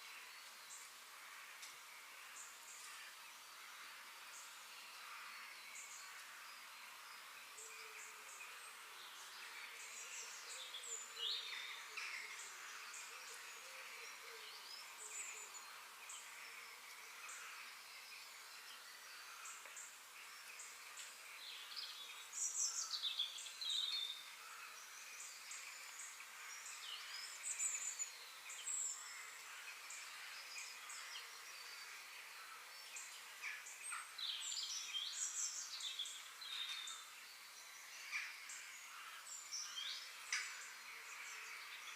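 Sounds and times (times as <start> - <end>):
faint steady hiss: 0.0 - 41.9.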